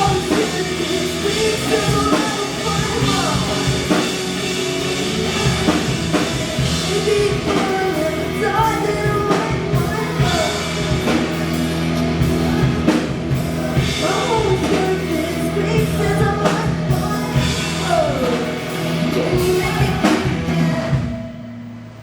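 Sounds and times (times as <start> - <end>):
person singing: 0.0 - 21.1
bass notes: 0.0 - 22.0
drum kit: 0.0 - 22.0.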